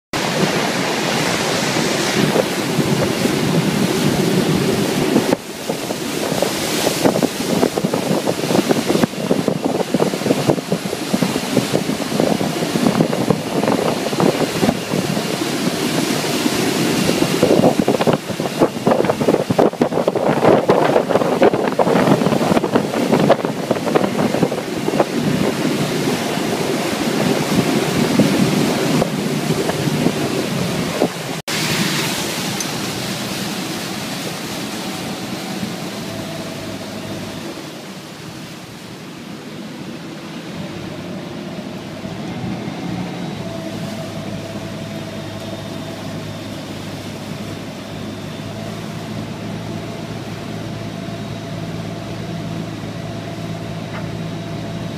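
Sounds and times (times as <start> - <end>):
churning wake water: 0.1 - 54.9
wind buffeting microphone: 0.2 - 54.9.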